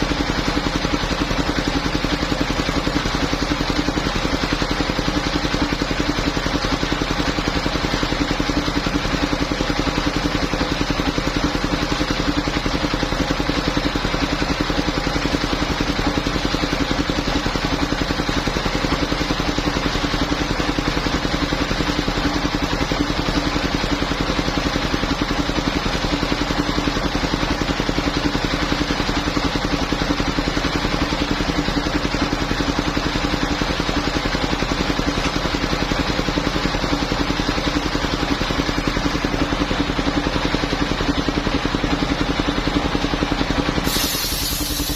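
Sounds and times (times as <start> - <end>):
sawmill engine running: 0.0 - 44.9.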